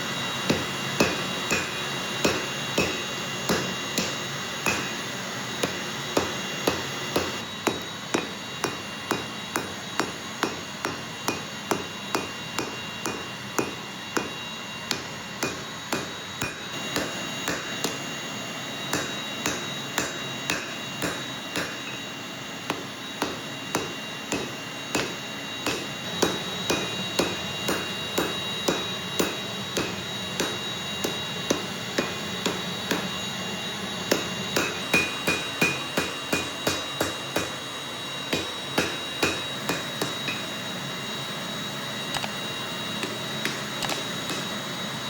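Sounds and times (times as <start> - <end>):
steady high whine: 0.0 - 45.0
hammer striking hot steel: 0.3 - 33.4, 34.0 - 37.7, 38.3 - 40.7, 43.0 - 44.6.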